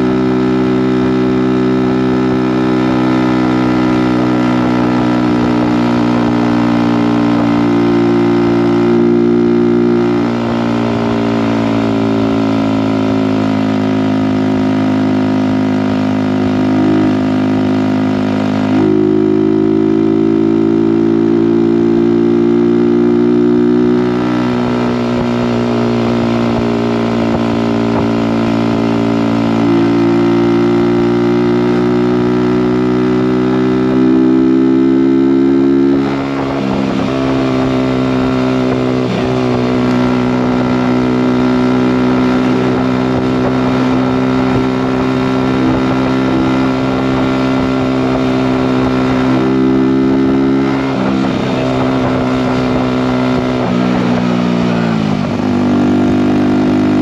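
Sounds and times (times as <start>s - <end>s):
motorcycle engine at cruising speed: 0.0s - 57.0s.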